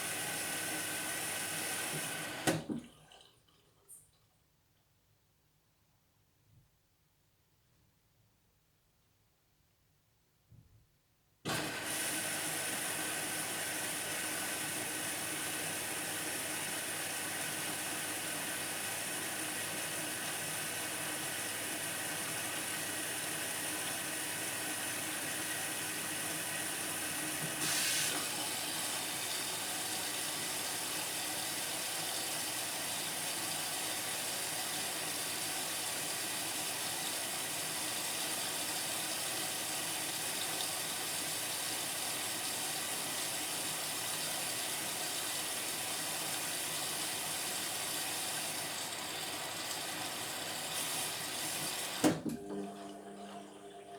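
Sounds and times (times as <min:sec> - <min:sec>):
water rushing into washing machine: 0:00.0 - 0:04.0, 0:11.5 - 0:53.9.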